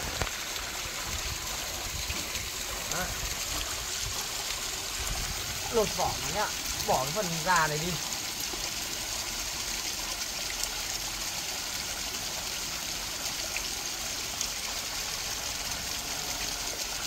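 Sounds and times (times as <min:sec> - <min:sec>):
water running and trickling: 0:00.0 - 0:17.0.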